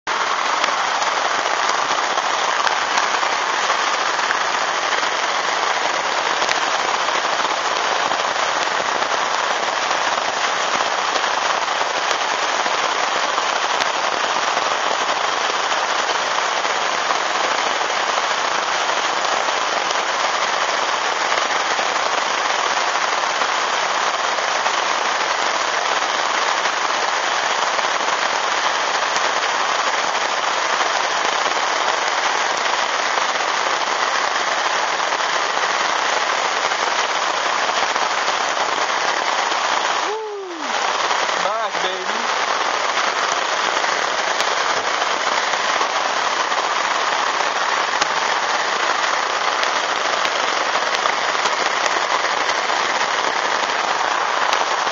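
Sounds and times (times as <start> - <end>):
heavy rain on water: 0.0 - 54.9.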